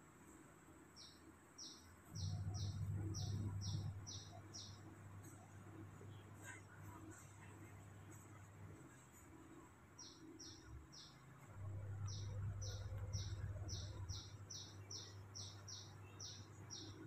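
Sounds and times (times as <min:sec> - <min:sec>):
low steady hum: 0:00.0 - 0:17.0
small bird chirping: 0:00.9 - 0:17.0.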